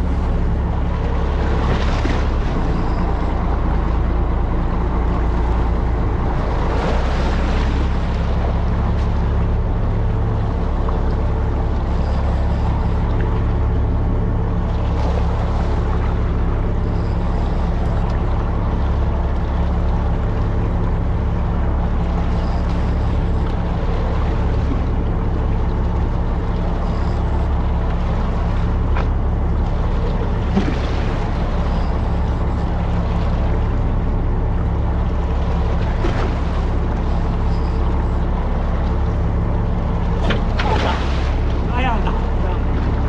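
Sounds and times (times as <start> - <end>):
boat engine droning: 0.0 - 43.0
water noise: 0.0 - 43.0
wind: 0.0 - 43.0.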